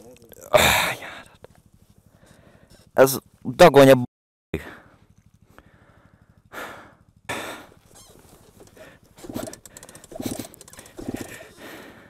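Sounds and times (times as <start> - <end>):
vehicle engine idling: 0.0 - 3.4, 4.6 - 12.0.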